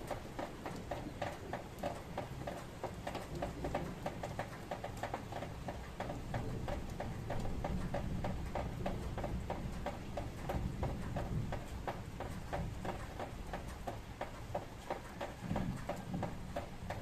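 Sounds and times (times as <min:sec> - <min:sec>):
raindrops tapping on hard surface: 0:00.0 - 0:17.0.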